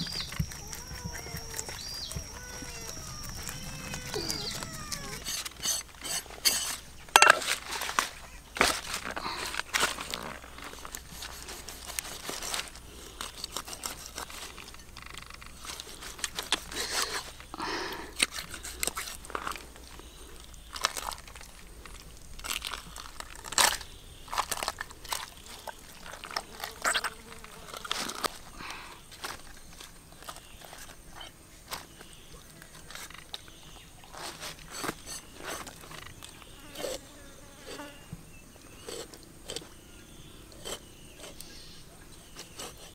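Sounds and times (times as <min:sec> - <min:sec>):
leaves rustling: 0:00.0 - 0:37.0.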